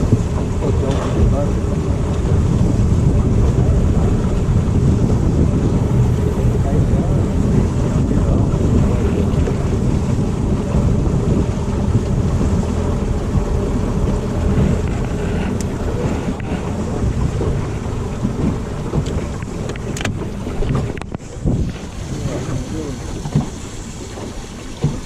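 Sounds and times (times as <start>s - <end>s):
low rumble of boat: 0.0s - 25.0s
wind buffeting microphone: 0.0s - 25.0s.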